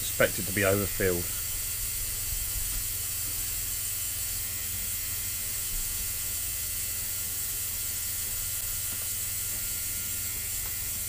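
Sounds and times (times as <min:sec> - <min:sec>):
machine buzzing with hiss: 0:00.0 - 0:11.0.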